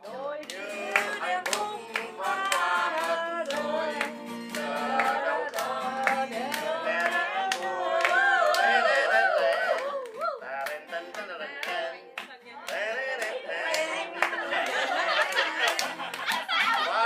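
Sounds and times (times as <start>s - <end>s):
acoustic guitar: 0.0s - 17.0s
group singing: 0.0s - 17.0s
hands clapping on the beat: 0.4s - 17.0s.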